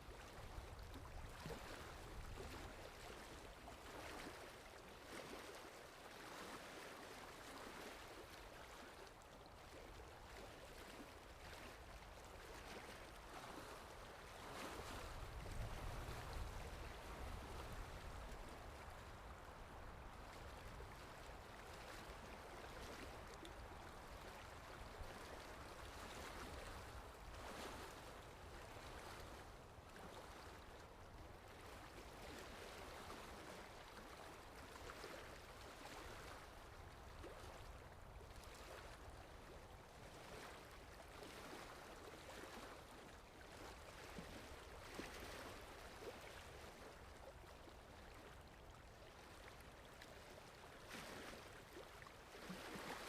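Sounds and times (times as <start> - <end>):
gentle waves lapping: 0.0 - 53.0
small water splashes: 0.0 - 53.0.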